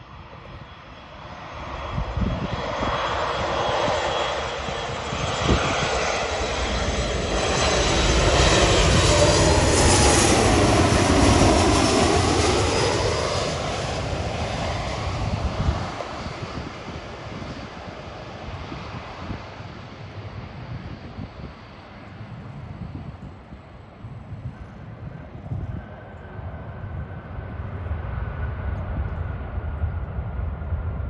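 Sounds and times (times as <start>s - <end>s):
jet passing low overhead: 0.0s - 31.0s.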